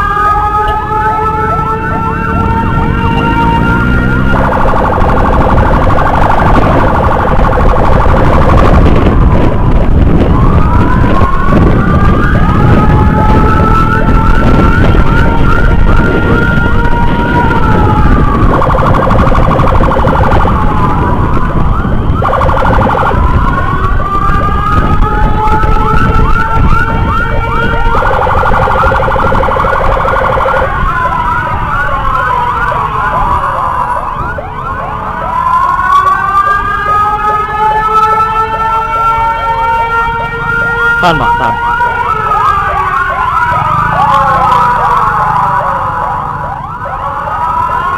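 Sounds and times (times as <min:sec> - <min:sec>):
electronic siren: 0:00.0 - 0:47.9
motorcycle riding rumble: 0:00.0 - 0:47.9
wind noise: 0:00.0 - 0:47.9.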